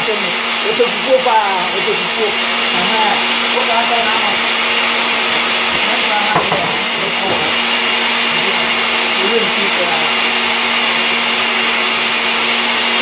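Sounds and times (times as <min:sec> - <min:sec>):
kitchen blender running: 0:00.0 - 0:13.0.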